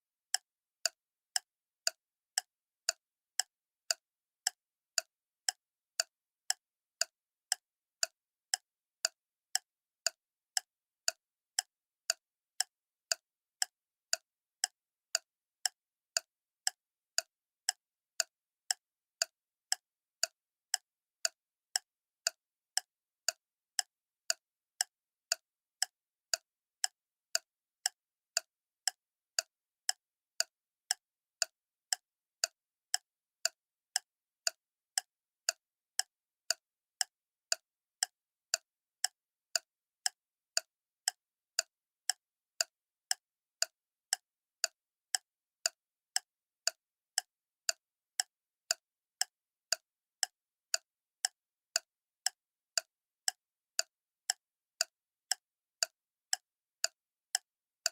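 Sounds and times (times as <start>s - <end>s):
clock ticking: 0.3s - 57.9s.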